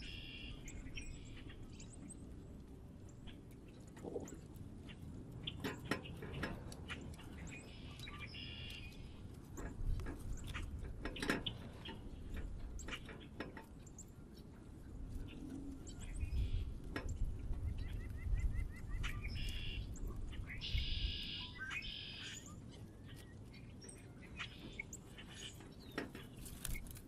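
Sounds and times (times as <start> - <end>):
songbirds chipping and chattering: 0.0 - 27.0.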